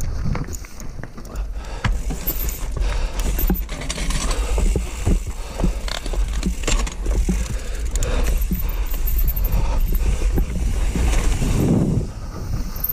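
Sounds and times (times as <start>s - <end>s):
bike knocking and rattling on rock: 0.0s - 12.9s.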